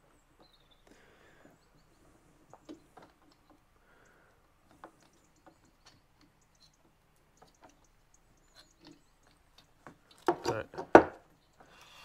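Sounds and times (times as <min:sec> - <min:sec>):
faint metal clicks: 0:00.4 - 0:12.0.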